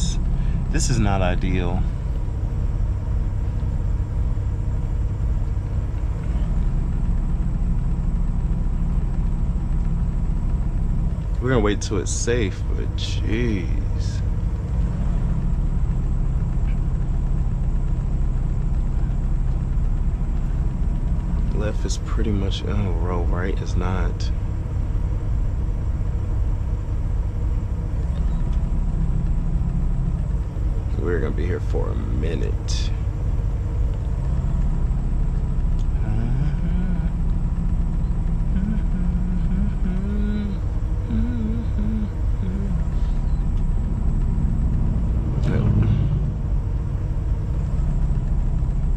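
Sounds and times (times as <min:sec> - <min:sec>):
diesel truck engine idling: 0:00.0 - 0:48.9
faint wavering humming voice: 0:00.0 - 0:48.9.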